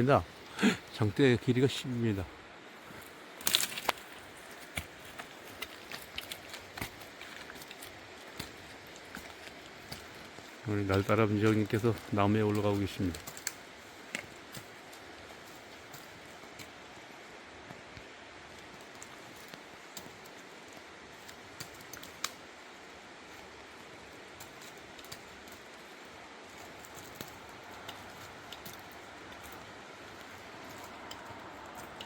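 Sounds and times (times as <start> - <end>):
faint open air hiss: 0.0 - 32.0.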